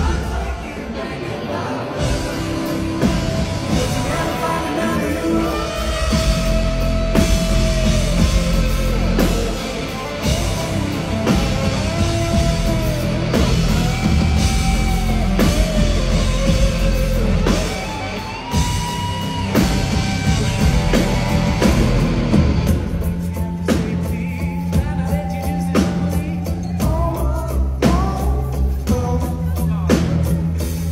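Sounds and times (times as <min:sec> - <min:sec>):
drum kit: 0:00.0 - 0:30.9
electric guitar: 0:00.0 - 0:30.9.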